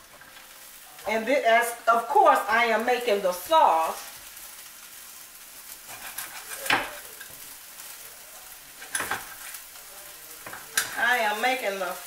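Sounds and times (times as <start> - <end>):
fruit sizzling in a skillet: 0.0 - 12.0.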